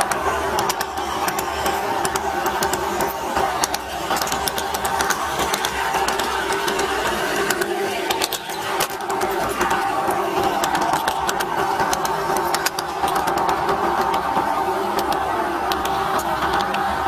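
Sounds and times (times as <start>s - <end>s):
model train motor humming: 0.0s - 17.0s
wheels clicking over track: 0.0s - 17.0s.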